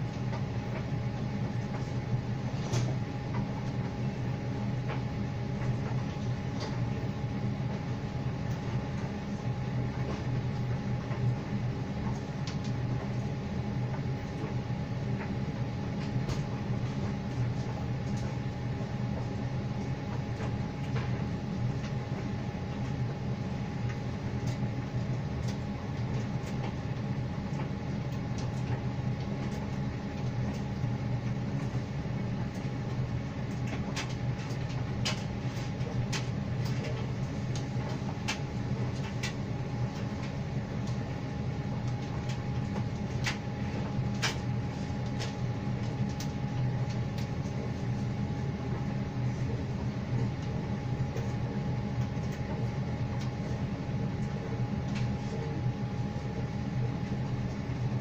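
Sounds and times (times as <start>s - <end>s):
tumble dryer humming: 0.0s - 58.0s
light clicks of tumbling load: 0.1s - 58.0s.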